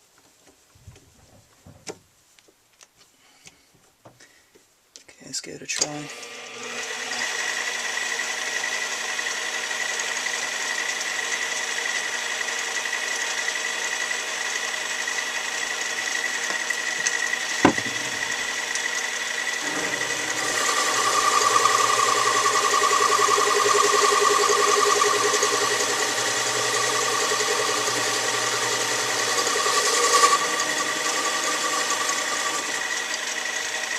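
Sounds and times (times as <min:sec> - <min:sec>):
metal lathe whining: 0:06.0 - 0:33.9.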